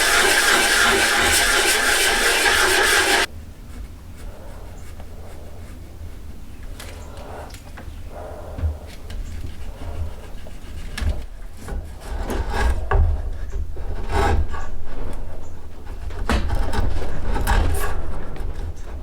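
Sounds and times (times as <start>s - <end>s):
hand tool scraping wood: 0.0s - 6.0s, 9.0s - 19.0s.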